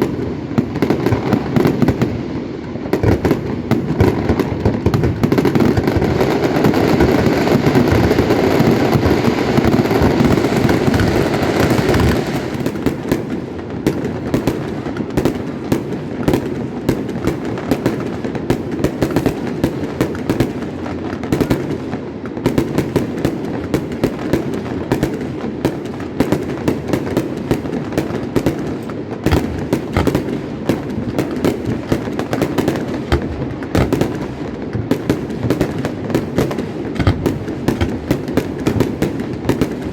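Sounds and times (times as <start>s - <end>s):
fireworks crackling and booming: 0.0s - 39.9s.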